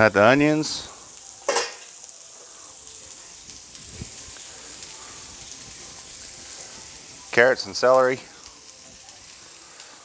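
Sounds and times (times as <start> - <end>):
vegetables sizzling on griddle: 0.0 - 10.0.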